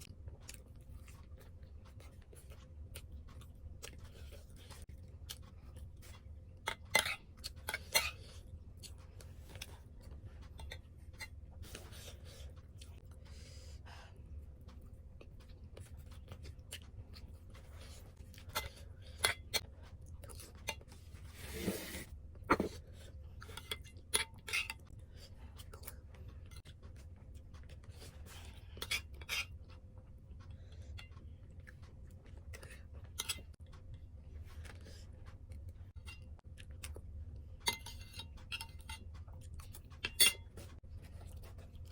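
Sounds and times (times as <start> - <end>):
chewing: 0.0 - 21.3, 22.8 - 41.9.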